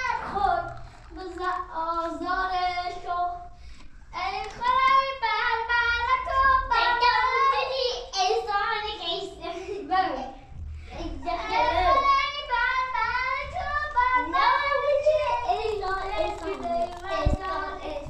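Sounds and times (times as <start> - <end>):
child singing: 0.0 - 3.5, 4.1 - 10.4, 11.0 - 18.0.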